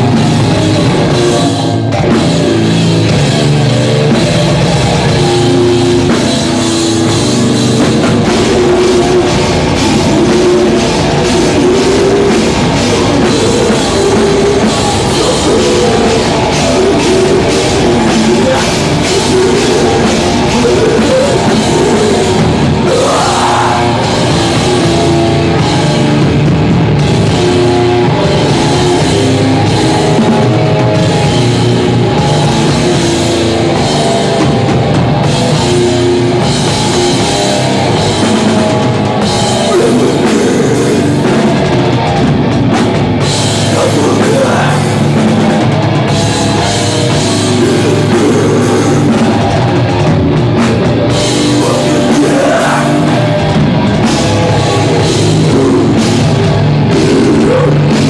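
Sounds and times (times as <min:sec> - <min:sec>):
heavy rock band playing: 0:00.0 - 0:58.0.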